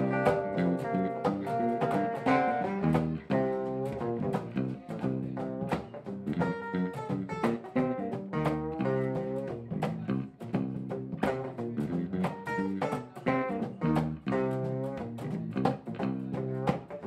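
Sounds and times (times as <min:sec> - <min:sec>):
low bass notes: 0:00.0 - 0:17.0
plucked guitar notes: 0:00.0 - 0:17.0.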